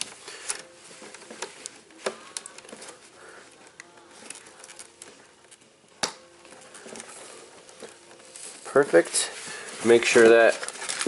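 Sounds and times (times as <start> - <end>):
handling noises: 0.0 - 11.0.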